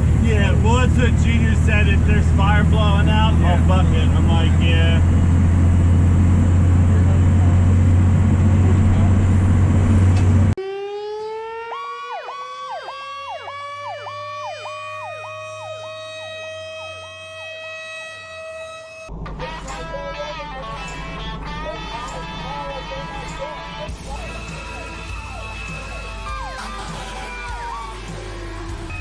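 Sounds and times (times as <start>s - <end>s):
road noise: 0.0s - 29.0s
sirens wailing and warbling: 0.0s - 29.0s
truck engine drone: 0.0s - 29.0s.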